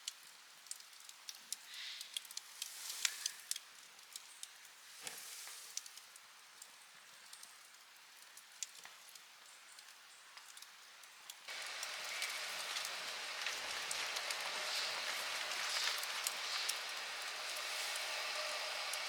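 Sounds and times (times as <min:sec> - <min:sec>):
campfire crackling: 0:00.0 - 0:19.0
soft hissing of fire: 0:00.0 - 0:19.0.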